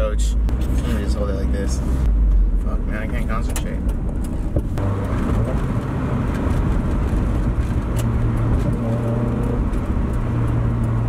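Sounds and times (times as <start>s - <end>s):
car engine and road noise drone: 0.0s - 11.0s.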